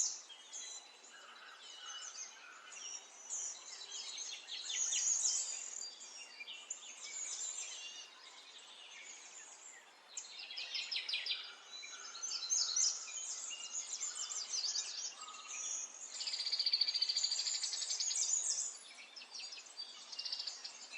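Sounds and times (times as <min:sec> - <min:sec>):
songbirds chirping: 0:00.0 - 0:20.9.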